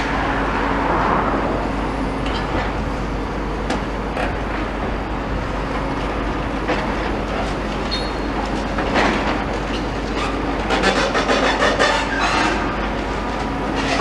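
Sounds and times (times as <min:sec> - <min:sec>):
demolition machinery rumbling: 0:00.0 - 0:14.0.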